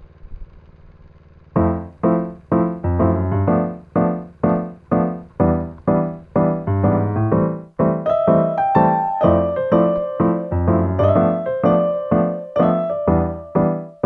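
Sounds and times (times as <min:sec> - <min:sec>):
piano chords: 0:01.6 - 0:14.0.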